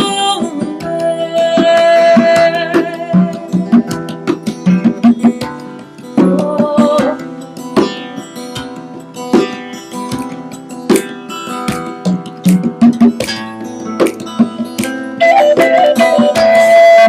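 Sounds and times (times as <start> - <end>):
hand drum strikes: 0.0 - 17.0
plucked string notes: 0.0 - 17.0.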